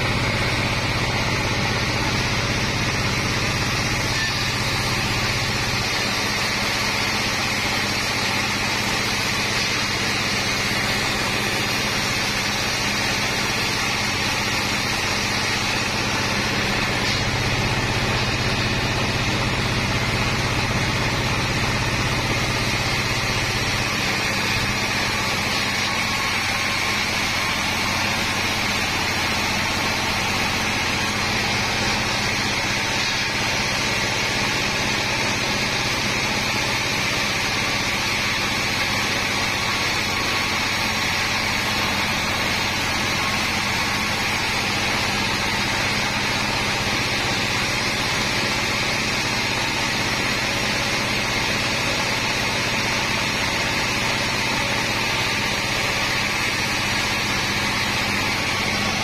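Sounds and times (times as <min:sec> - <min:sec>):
band saw cutting timber: 0:00.0 - 0:59.0
machine hum: 0:00.0 - 0:59.0.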